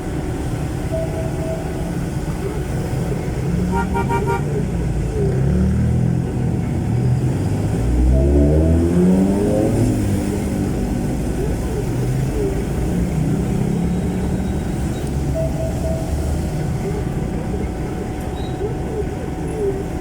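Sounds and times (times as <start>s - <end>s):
diesel engine through loud muffler: 1.8s - 18.0s.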